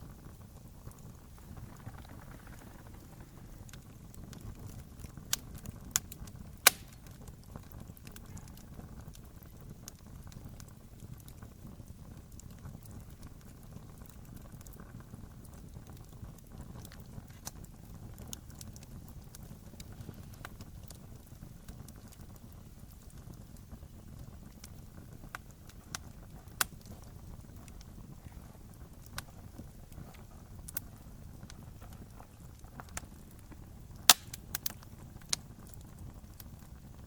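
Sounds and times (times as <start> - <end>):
campfire flames rumbling: 0.0 - 37.0
fire crackles and pops: 0.0 - 37.0.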